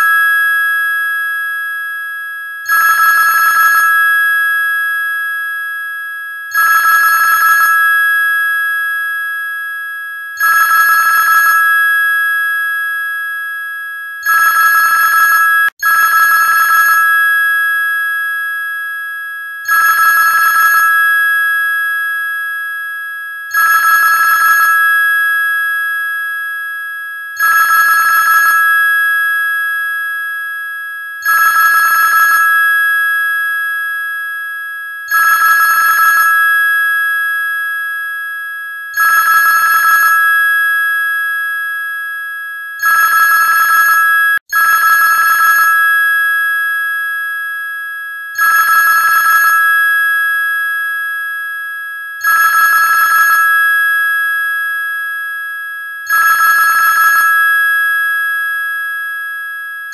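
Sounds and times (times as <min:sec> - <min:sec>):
trilling electronic telephone ring: 0:00.0 - 0:59.9.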